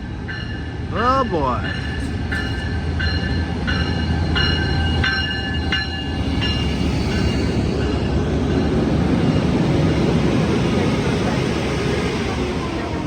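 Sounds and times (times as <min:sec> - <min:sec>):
diesel locomotive rumbling: 0:00.0 - 0:13.0
train bell ringing: 0:00.0 - 0:13.0.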